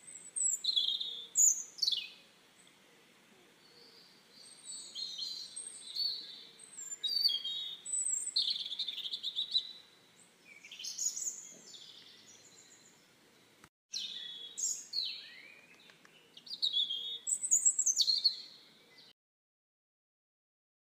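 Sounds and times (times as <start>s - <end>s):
faint outdoor background noise: 0.0s - 19.1s
songbirds singing: 0.0s - 19.2s.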